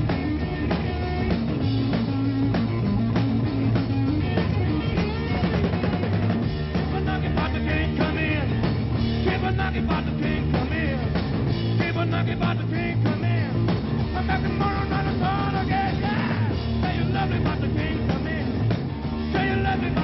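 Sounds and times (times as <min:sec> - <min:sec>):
rock and roll band playing: 0:00.0 - 0:20.0.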